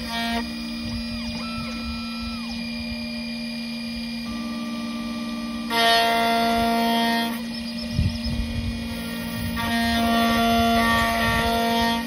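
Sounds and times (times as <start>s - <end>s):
key-cutting machine whine: 0.0s - 12.0s.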